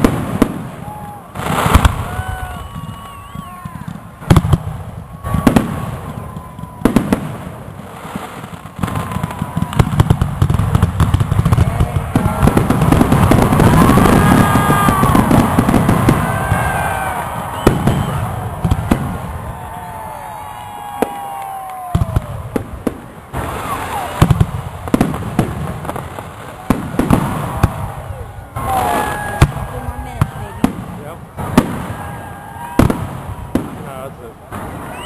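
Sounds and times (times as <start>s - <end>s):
fireworks booming: 0.0s - 35.0s
fireworks crackling and popping: 0.0s - 35.0s
whistling fireworks: 0.0s - 35.0s.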